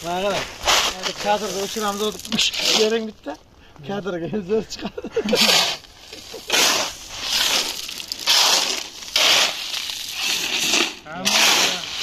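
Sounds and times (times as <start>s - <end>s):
shovels scraping gravel: 0.0s - 3.4s, 5.1s - 12.0s
gravel rattling into wheelbarrow: 0.0s - 4.0s, 5.1s - 12.0s.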